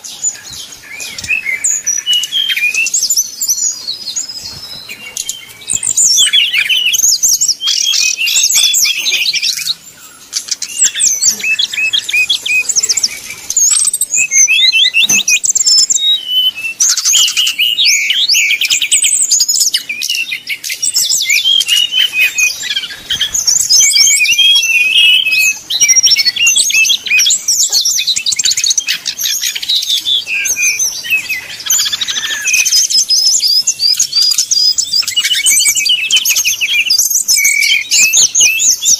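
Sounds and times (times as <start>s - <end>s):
bird singing high trills: 0.0s - 38.9s.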